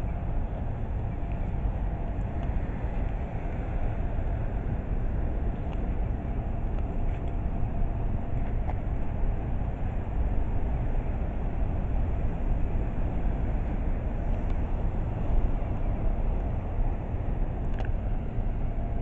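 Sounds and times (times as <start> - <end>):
continuous low rumble: 0.0 - 19.0.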